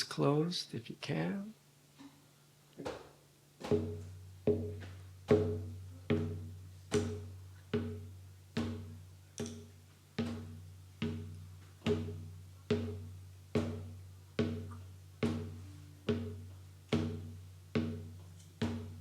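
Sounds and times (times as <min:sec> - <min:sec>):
slow low drum beat: 0:03.7 - 0:19.0.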